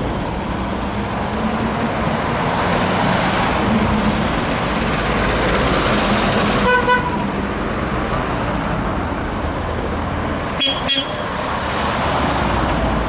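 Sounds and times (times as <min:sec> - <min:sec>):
tractor and car engines passing: 0:00.0 - 0:10.6.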